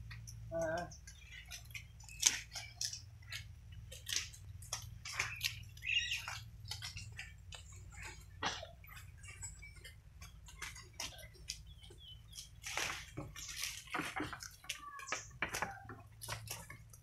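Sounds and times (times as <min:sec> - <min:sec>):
leaves and twigs rustling and snapping: 0:00.0 - 0:17.0
steady low hum: 0:00.0 - 0:17.0.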